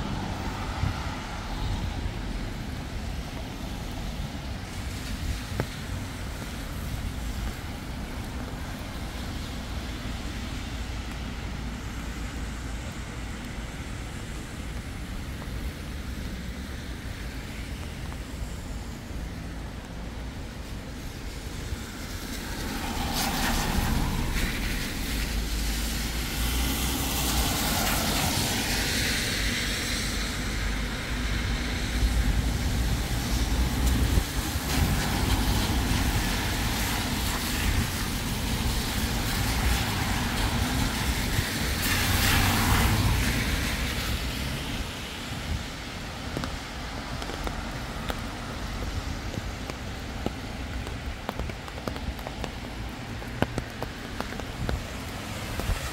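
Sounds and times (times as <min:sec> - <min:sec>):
falling rain: 0:00.0 - 0:55.9
tyres hissing on wet asphalt: 0:00.0 - 0:55.9.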